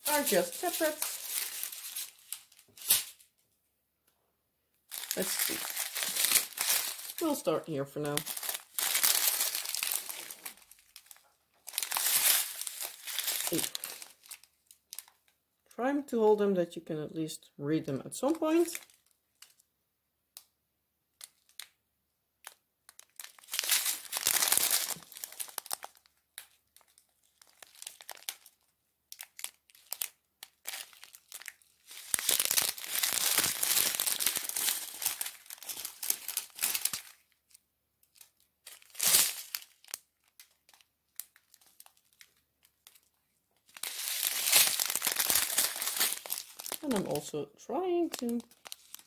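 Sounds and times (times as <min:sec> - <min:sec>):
plastic zip bags crinkling: 0:00.0 - 0:03.2, 0:04.9 - 0:15.3, 0:18.4 - 0:19.6, 0:22.4 - 0:49.0.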